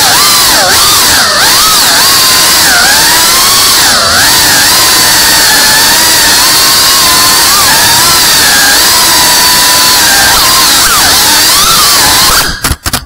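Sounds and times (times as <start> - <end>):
drone motors whining: 0.0 - 12.8.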